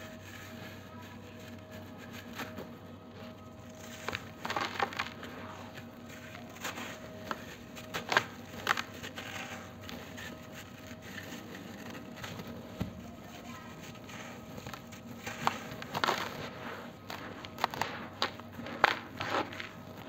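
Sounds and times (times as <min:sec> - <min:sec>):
dry lumps crumbled by hand: 0:00.0 - 0:20.0.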